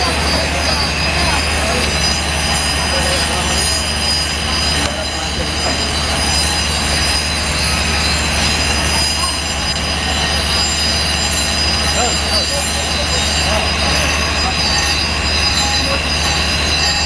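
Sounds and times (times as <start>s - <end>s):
high whine: 0.0s - 17.0s
welding machine humming: 0.0s - 17.0s.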